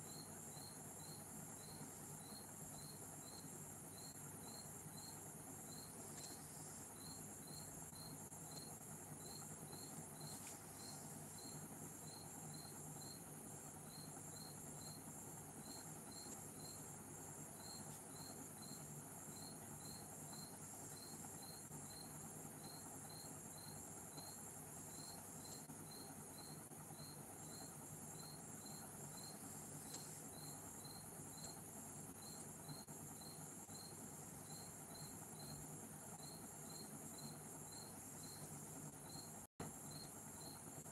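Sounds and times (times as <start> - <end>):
faint low hum: 0.0 - 40.9
insect chirping: 0.0 - 40.9
steady high hiss: 0.0 - 40.9.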